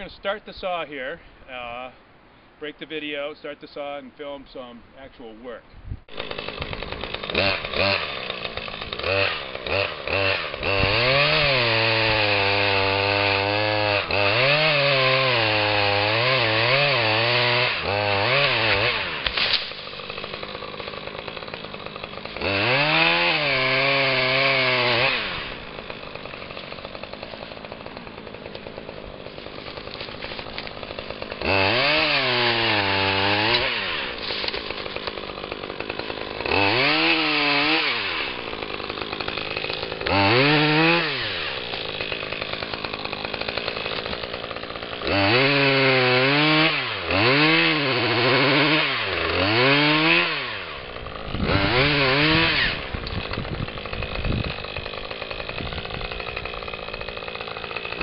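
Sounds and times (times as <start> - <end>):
chainsaw idling: 6.1 - 58.0
chainsaw revving: 6.1 - 58.0.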